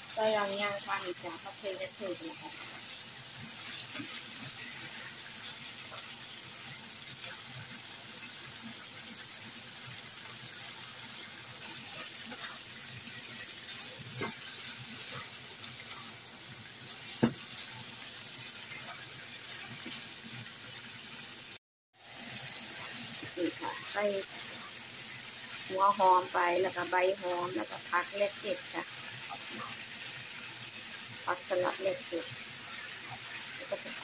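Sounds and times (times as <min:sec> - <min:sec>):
liver sizzling in a pan: 0:00.0 - 0:34.0.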